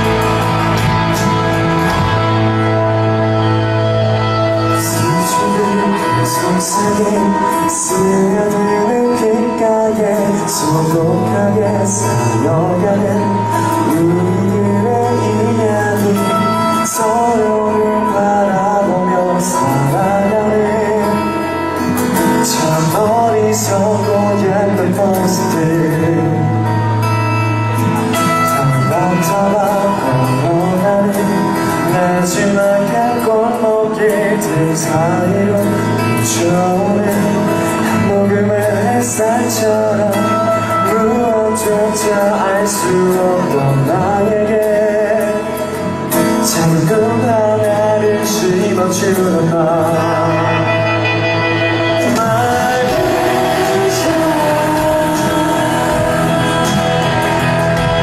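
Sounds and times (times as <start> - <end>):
instrumental backing: 0.0 - 58.0
man singing into microphone: 0.0 - 58.0.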